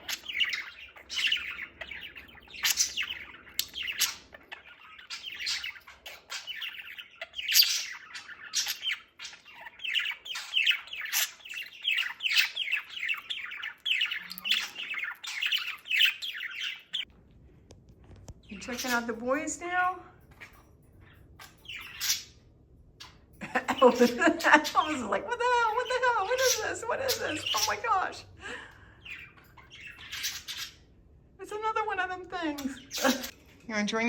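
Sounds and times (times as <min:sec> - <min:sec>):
parakeets chattering: 0:00.0 - 0:17.1, 0:18.1 - 0:34.0.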